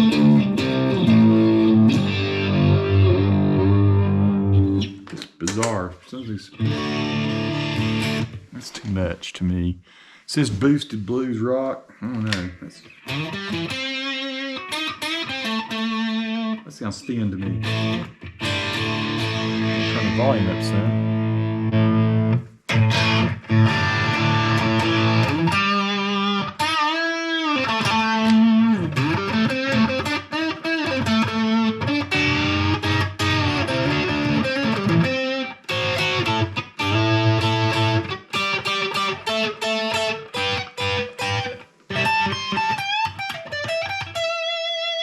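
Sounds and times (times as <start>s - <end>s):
electric guitar lead phrases: 0.0s - 5.0s, 6.5s - 8.5s, 12.0s - 45.0s.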